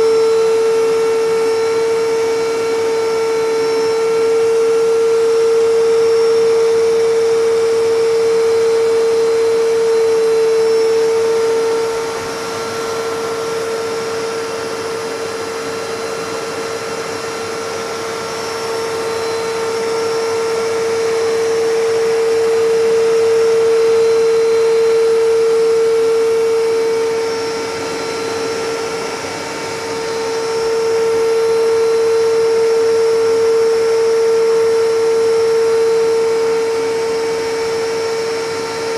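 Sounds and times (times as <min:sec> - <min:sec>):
vacuum cleaner motor running: 0:00.0 - 0:38.9.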